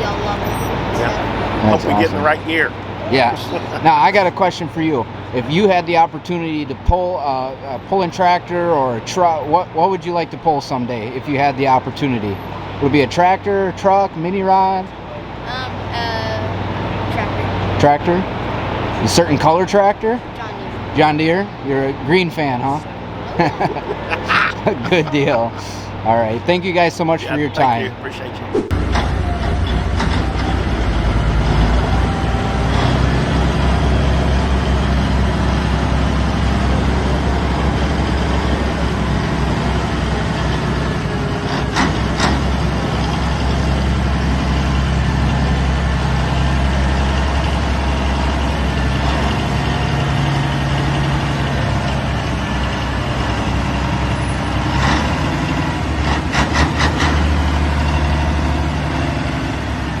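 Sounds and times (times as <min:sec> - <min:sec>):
heavy diesel engine running: 0:00.0 - 0:09.8, 0:10.8 - 1:00.0.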